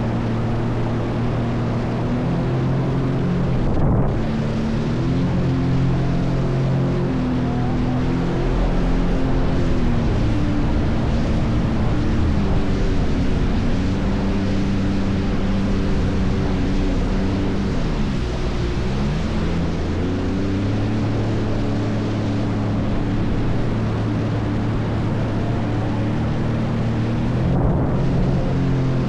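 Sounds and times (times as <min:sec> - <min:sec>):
jet ski engine running: 0:00.0 - 0:29.0
wind and water spray: 0:00.0 - 0:29.0.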